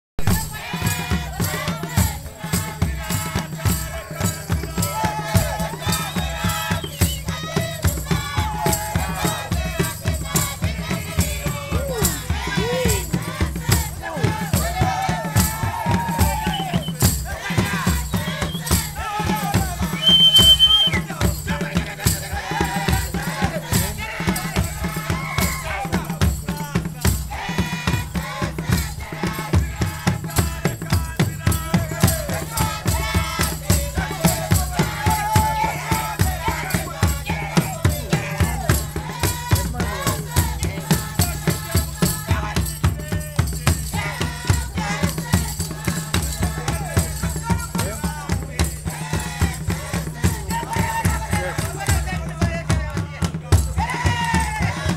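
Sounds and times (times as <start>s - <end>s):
drums beating fast rhythm: 0.2s - 54.9s
people singing: 0.2s - 54.9s.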